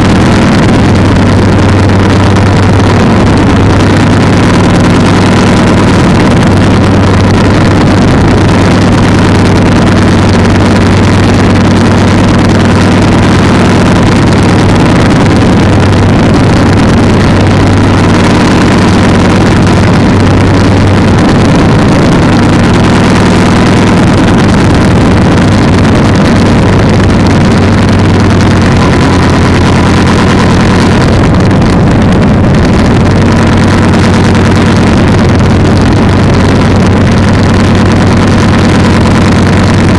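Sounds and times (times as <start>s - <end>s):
two-stroke engine and propeller: 0.0s - 39.9s
wind noise: 0.0s - 39.9s.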